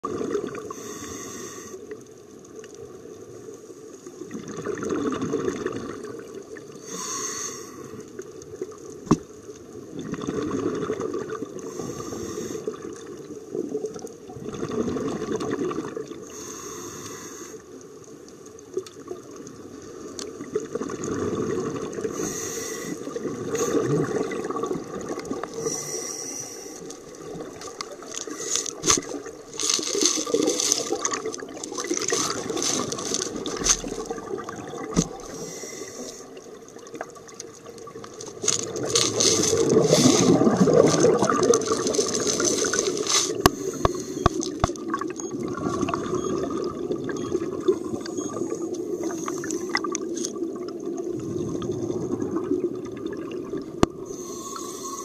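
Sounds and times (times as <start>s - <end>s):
underwater rush of water: 0.0s - 55.0s.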